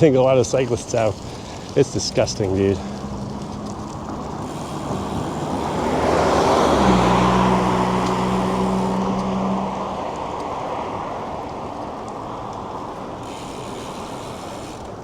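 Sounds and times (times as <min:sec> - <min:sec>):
engine hum: 0:00.0 - 0:15.0
road noise of passing vehicle: 0:00.0 - 0:15.0.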